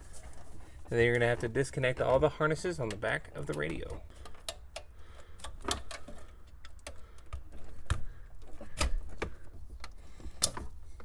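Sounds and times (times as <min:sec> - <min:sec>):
metal radio case handled: 0:00.0 - 0:11.0.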